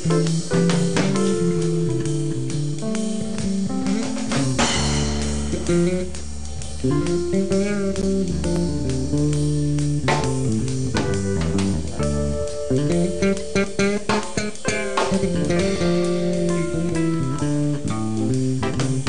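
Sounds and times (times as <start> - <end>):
bass guitar: 0.0 - 19.0
drums playing: 0.0 - 19.0
guitar: 0.0 - 19.0.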